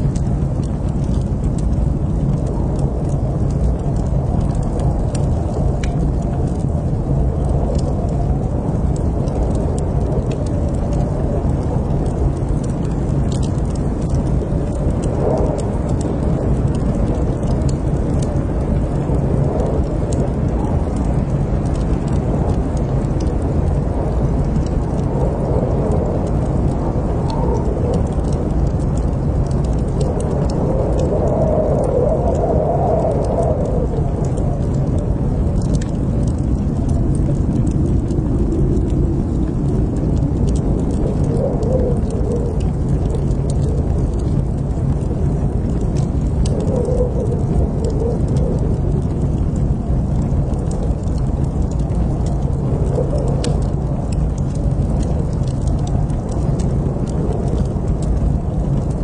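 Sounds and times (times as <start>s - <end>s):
burning wood crackling: 0.0s - 59.0s
fire flames rumbling: 0.0s - 59.0s.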